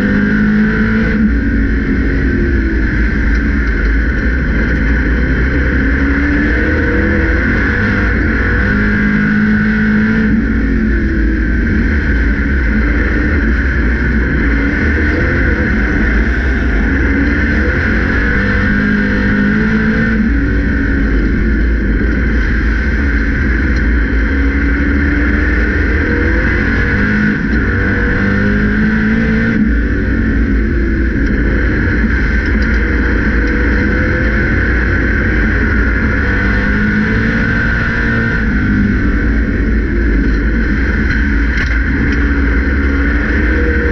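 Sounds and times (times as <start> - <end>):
race car engine: 0.0 - 43.9.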